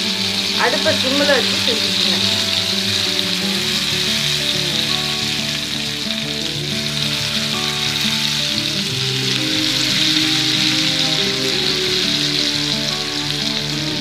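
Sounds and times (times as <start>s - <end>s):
background music with held notes: 0.0s - 14.0s
okra sizzling in hot oil: 0.0s - 14.0s.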